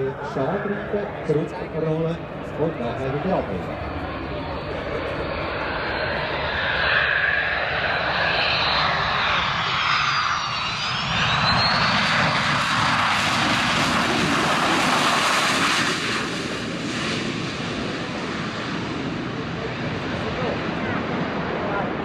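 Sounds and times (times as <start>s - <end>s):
jet engine rush: 0.0s - 22.0s
jet engine whine: 0.0s - 22.0s.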